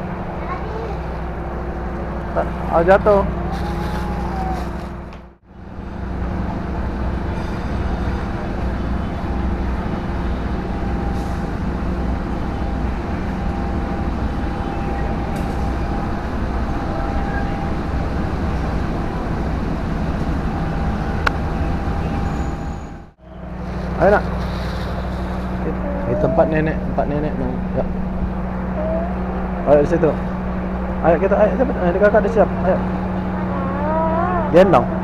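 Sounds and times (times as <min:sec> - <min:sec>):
train idling rumble: 0:00.0 - 0:35.0.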